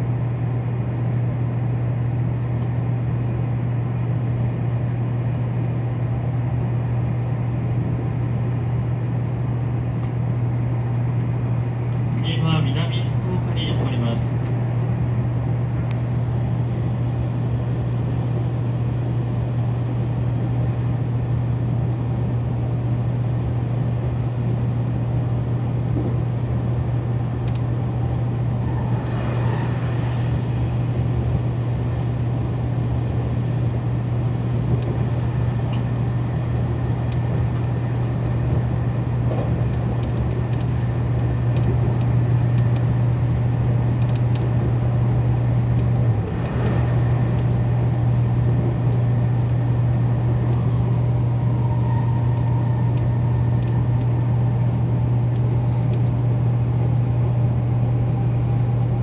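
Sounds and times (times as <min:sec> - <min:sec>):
train low hum: 0:00.0 - 0:59.0
train wheels rumbling on rails: 0:09.8 - 0:59.0.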